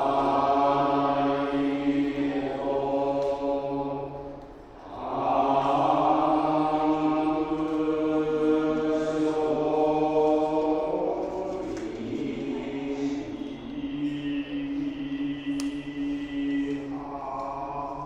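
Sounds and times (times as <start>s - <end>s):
monks chanting long notes: 0.0s - 18.0s.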